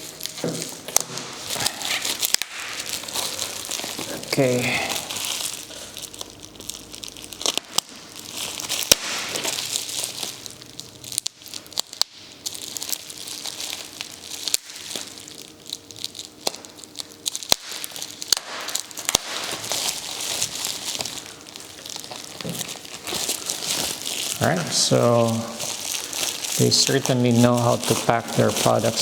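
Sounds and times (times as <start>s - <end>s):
packing material crinkling: 0.0s - 29.0s.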